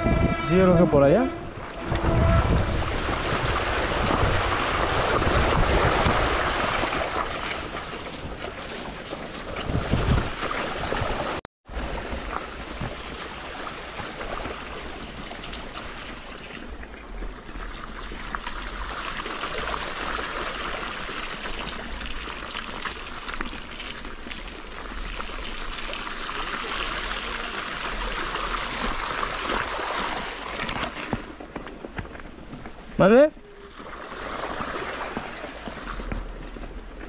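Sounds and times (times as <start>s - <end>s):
river water running and splashing: 1.6s - 31.8s, 33.4s - 37.0s.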